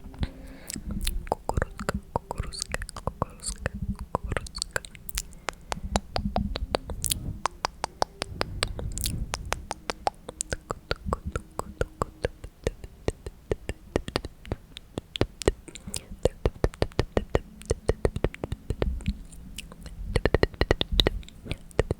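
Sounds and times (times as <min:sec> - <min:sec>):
dull low rumble: 0:00.0 - 0:21.9
tongue clicks: 0:00.1 - 0:21.9.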